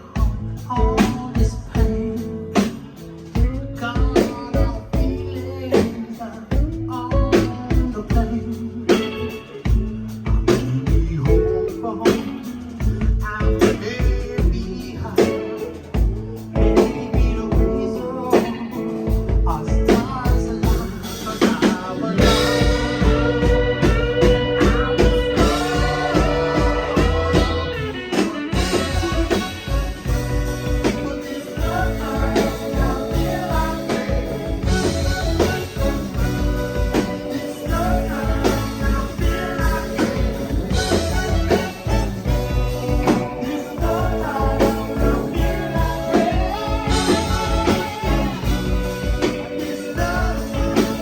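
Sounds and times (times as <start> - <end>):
drum kit: 0.0 - 51.0
electric guitar: 0.0 - 51.0
person singing: 0.0 - 51.0.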